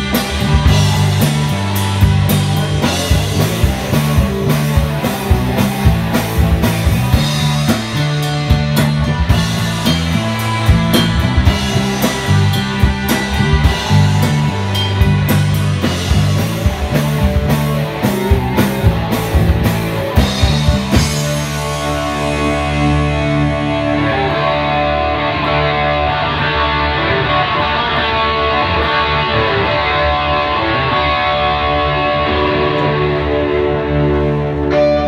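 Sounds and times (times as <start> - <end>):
drum kit: 0.0 - 35.0
electric bass guitar: 0.0 - 35.0
electric guitar: 0.0 - 35.0.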